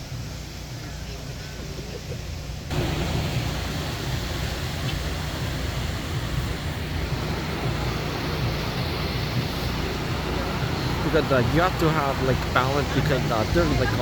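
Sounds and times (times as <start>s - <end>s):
river rapids rushing: 2.7s - 14.0s.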